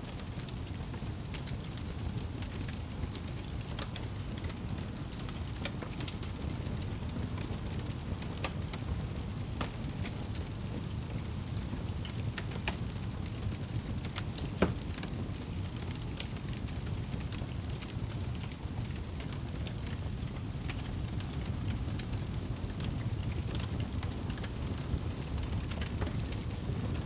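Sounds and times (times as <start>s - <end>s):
fire crackles and pops: 0.0s - 27.0s
wood fire rumbling: 0.0s - 27.0s.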